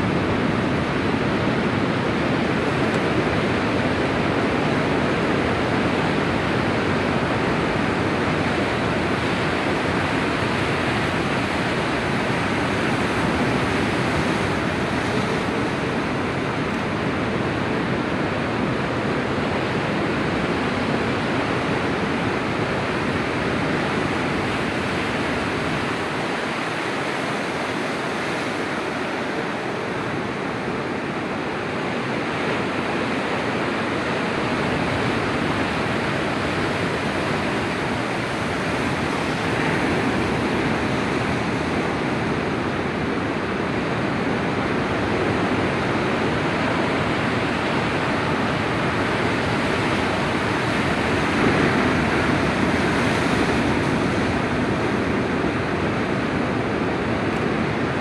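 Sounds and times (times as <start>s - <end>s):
waves washing onto beach: 0.0s - 58.0s.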